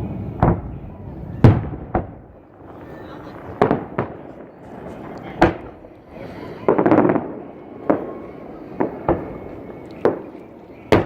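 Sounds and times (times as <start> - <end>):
fireworks bangs: 0.0 - 11.0
fireworks crackling burst: 0.0 - 11.0.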